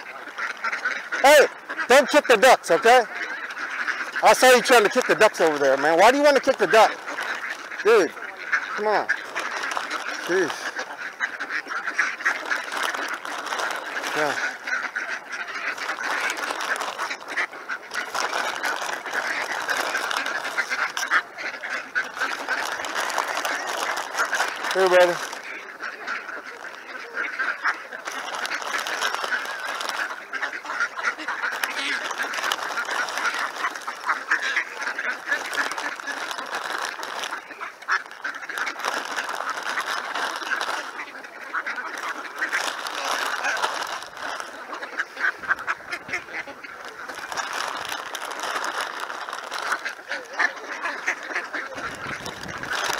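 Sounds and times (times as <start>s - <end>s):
ducks quacking: 0.0s - 52.9s.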